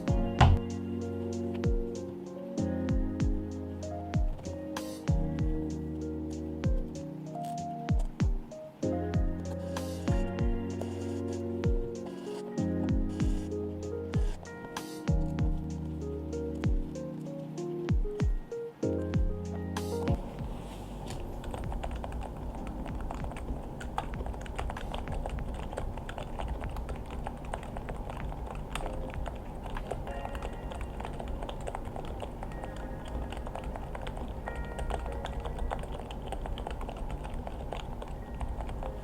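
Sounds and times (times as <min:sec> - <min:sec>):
background music: 0:00.0 - 0:25.6, 0:28.3 - 0:39.0
keyboard typing: 0:00.0 - 0:39.0.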